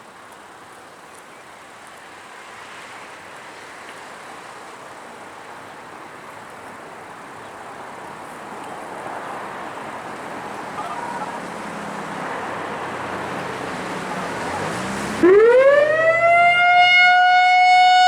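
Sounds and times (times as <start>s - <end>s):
hiss of road traffic: 0.0s - 16.0s.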